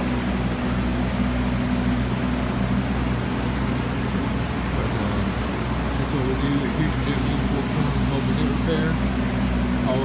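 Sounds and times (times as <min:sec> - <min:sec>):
constant rushing noise: 0:00.0 - 0:10.0
low mechanical hum: 0:00.0 - 0:10.0.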